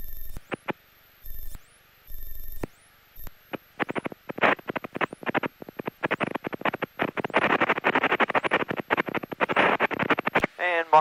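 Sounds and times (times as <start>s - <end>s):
radio static crackling: 0.0s - 11.0s.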